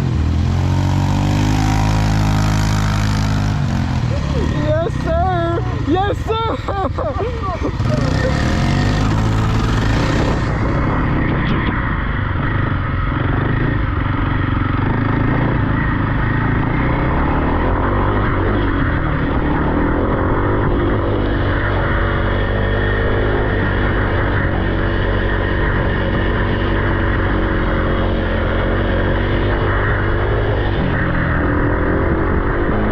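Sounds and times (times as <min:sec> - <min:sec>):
off-road vehicle engine running: 0:00.0 - 0:32.9.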